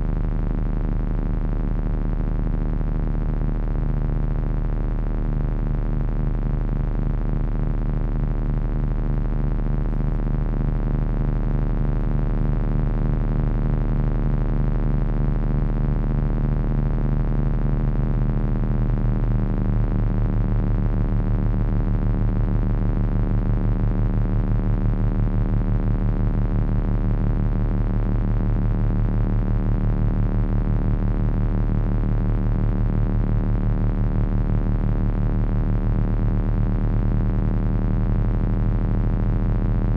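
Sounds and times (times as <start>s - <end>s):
throbbing electronic drone: 7.8s - 39.9s.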